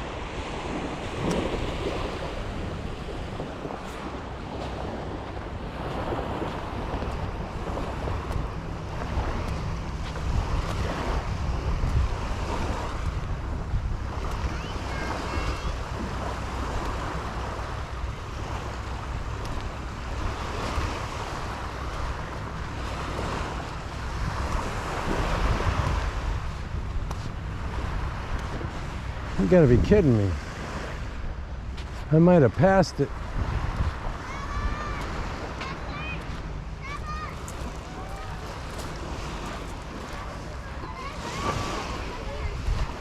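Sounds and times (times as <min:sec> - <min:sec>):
waves breaking on beach: 0:00.0 - 0:43.0
wind buffeting microphone: 0:00.0 - 0:43.0.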